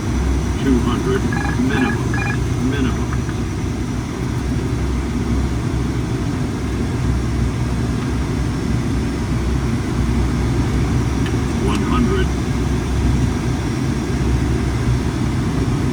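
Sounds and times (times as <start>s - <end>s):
turboprop engines droning: 0.0s - 13.7s.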